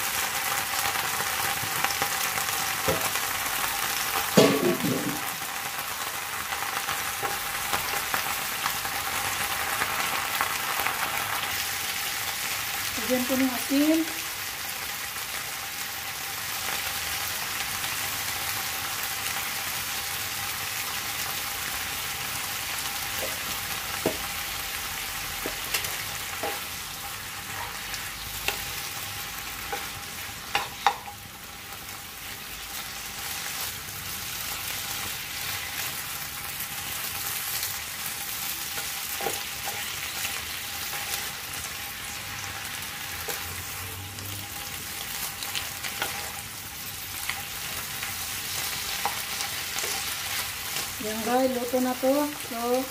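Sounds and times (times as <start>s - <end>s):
vegetables sizzling in oil: 0.0s - 52.9s.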